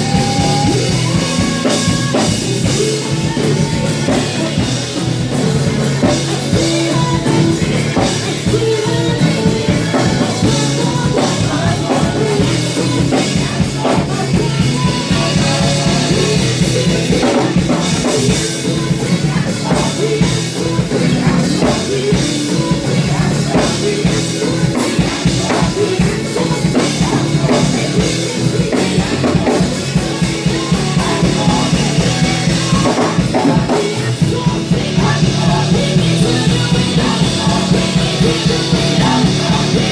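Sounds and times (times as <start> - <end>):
band playing upbeat song: 0.0 - 39.9
driving drum kit: 0.0 - 39.9
voices singing: 0.0 - 39.9.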